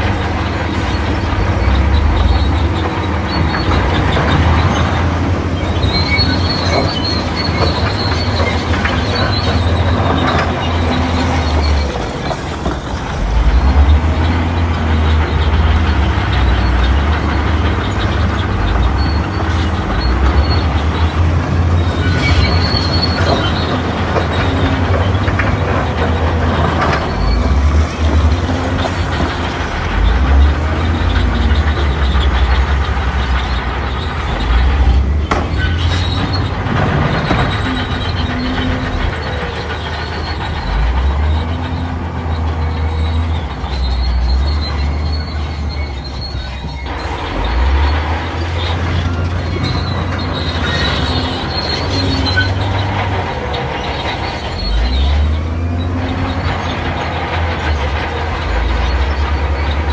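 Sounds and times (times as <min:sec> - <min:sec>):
bulldozer diesel engine drone: 0:00.0 - 0:59.9
steel tracks squealing: 0:00.0 - 0:59.9.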